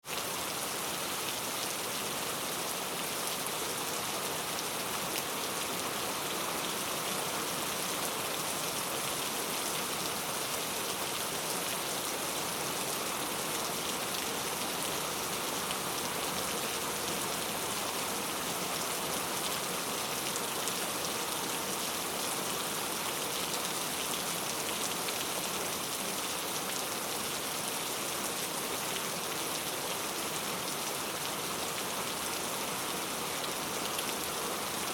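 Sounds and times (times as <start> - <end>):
heavy rain on hard surfaces: 0.0 - 34.9.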